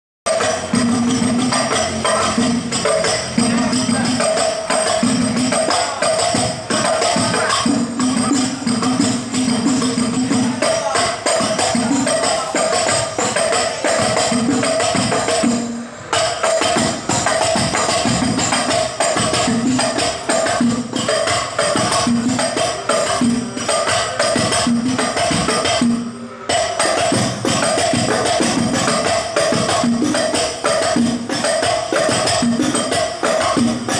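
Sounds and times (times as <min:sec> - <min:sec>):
frame drums fast rhythm: 0:00.3 - 0:33.9.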